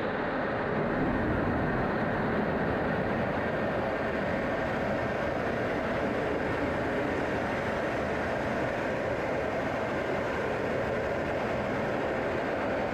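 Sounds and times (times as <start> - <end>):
jet engine and airflow rumble: 0.0 - 12.9.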